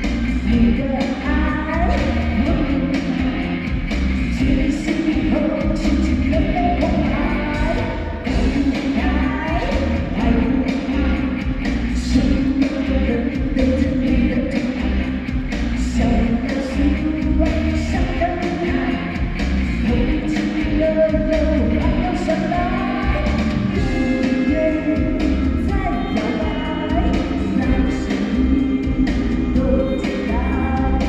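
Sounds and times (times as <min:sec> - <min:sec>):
instrumental music with steady beat: 0:00.0 - 0:31.0
person singing: 0:00.0 - 0:31.0.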